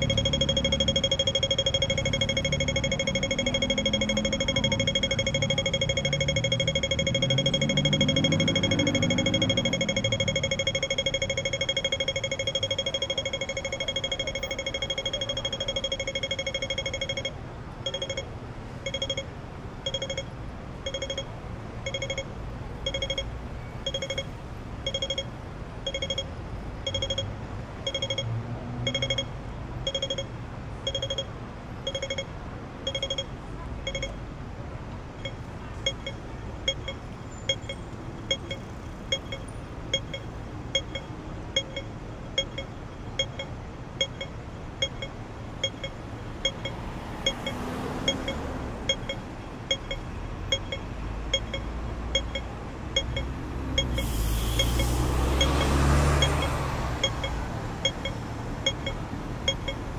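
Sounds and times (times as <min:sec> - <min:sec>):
crossing signal tone and beeps: 0:00.0 - 0:34.3, 0:35.2 - 0:59.9
low traffic rumble: 0:00.0 - 0:59.9.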